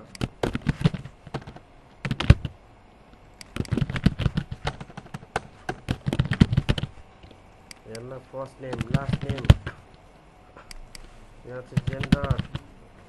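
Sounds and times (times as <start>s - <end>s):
computer keyboard typing: 0.0s - 2.6s, 3.4s - 9.8s, 10.7s - 12.7s.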